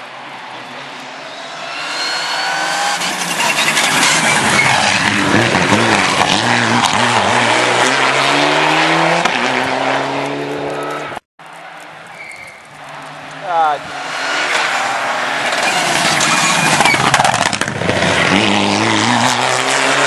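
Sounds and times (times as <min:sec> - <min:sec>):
rally car engine passing by: 0:00.8 - 0:11.2, 0:13.4 - 0:20.0.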